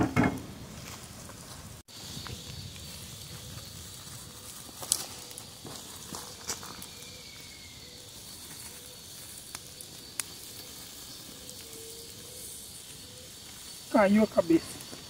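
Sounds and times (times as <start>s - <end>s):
sharp pops from fire: 0.0s - 13.9s
fish sizzling over campfire: 0.0s - 15.0s.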